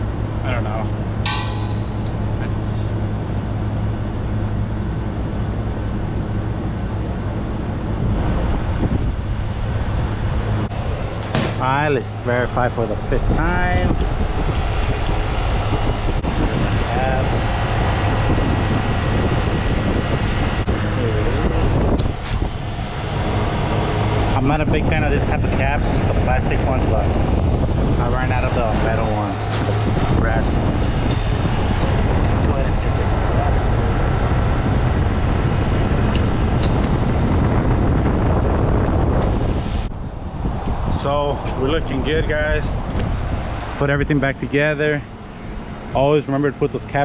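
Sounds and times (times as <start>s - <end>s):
refrigeration unit droning: 0.0s - 47.0s.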